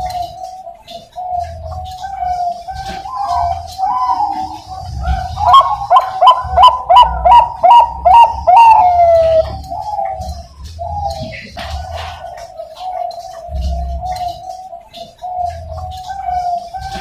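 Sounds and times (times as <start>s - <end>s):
dove cooing song: 0.0s - 17.0s.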